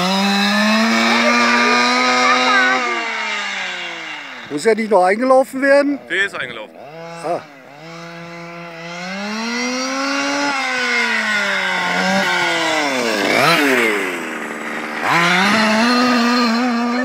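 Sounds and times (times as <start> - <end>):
rc truck engine revving: 0.0 - 17.0.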